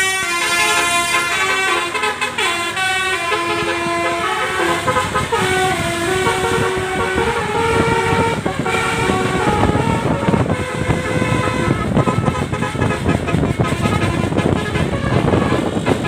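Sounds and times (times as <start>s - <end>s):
engine rumble: 0.0s - 16.0s
multi-tone air horn tune: 0.0s - 16.0s.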